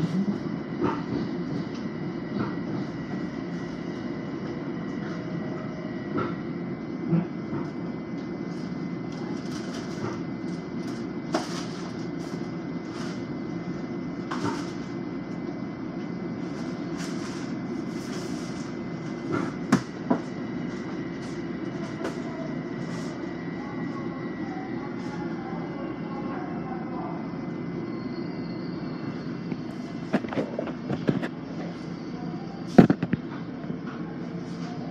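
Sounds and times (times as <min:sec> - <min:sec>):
electric train rumble and hum: 0:00.0 - 0:34.9
faint high whine: 0:00.0 - 0:34.9.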